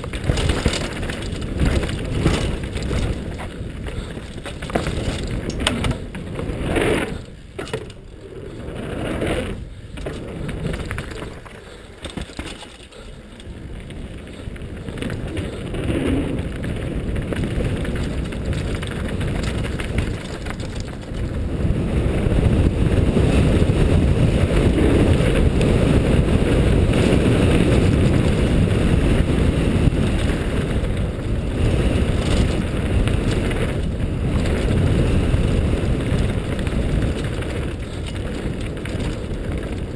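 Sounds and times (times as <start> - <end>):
bike clattering over bumps: 0.0 - 39.9
tyres on loose dirt and rock: 0.0 - 39.9
wind over microphone: 0.0 - 39.9.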